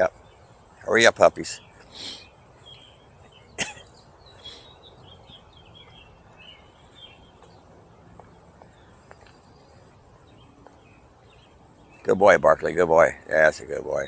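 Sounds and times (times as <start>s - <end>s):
low outdoor hiss: 0.0s - 14.0s
small birds chirping: 0.0s - 14.0s.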